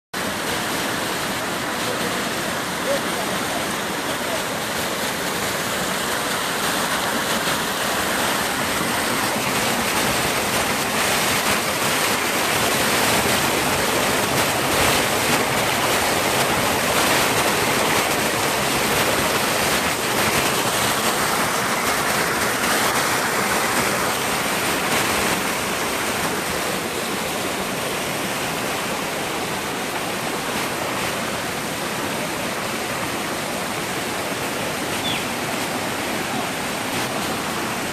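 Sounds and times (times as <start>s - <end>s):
stream rushing over boulders: 0.2s - 37.9s.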